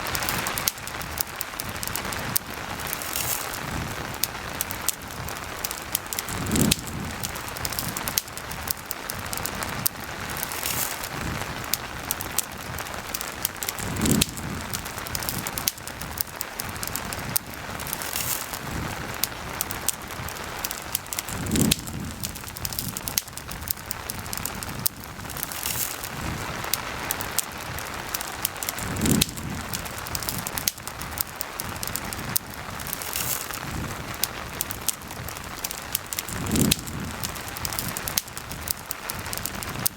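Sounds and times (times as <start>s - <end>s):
campfire crackling: 0.0s - 39.9s
rain falling: 0.0s - 39.9s.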